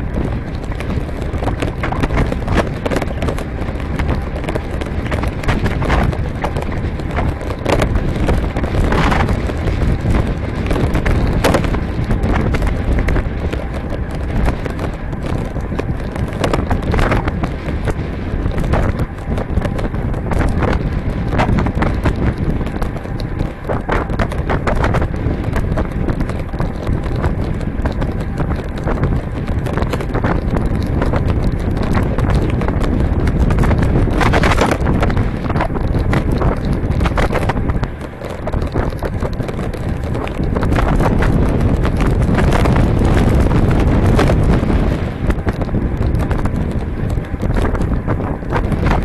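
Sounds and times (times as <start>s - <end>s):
tyres rumbling on road: 0.0s - 49.0s
wind buffeting microphone: 0.0s - 49.0s.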